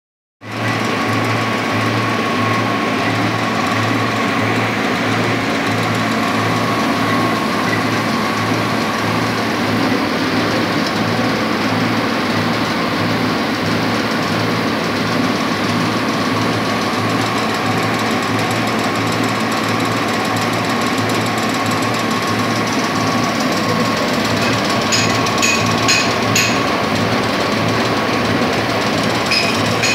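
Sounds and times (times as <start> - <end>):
pellet mill running: 0.4 - 29.9.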